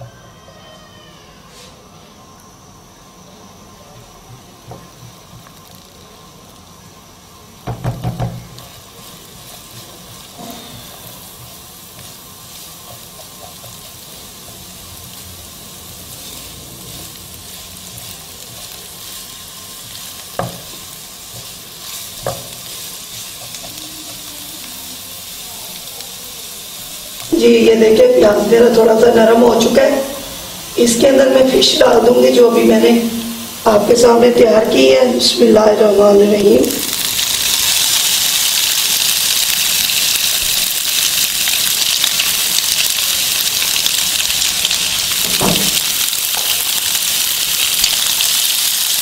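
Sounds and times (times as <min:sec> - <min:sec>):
onion sizzling in a frying pan: 0:00.0 - 0:49.0.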